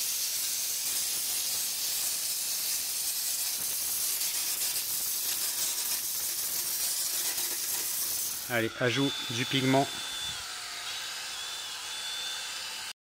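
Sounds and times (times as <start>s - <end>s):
spray gun hiss of rushing air: 0.0s - 10.6s.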